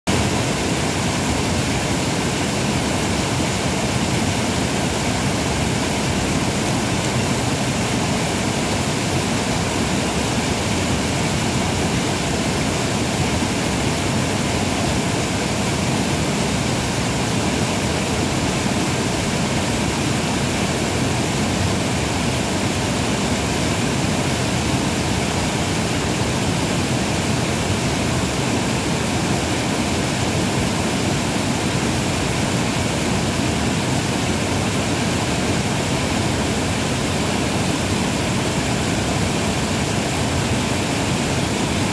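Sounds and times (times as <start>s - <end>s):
water rushing over rocks: 0.1s - 41.9s.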